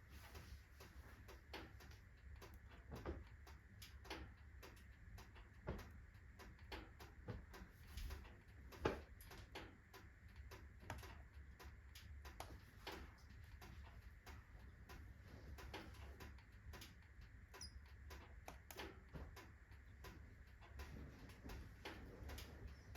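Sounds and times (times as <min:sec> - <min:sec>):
wood fire crackling in stove: 0:00.0 - 0:22.9.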